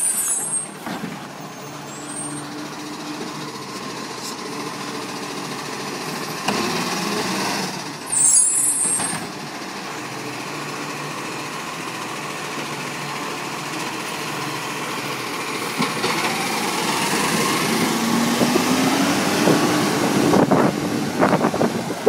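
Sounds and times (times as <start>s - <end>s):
garbage truck diesel engine: 0.0s - 22.0s.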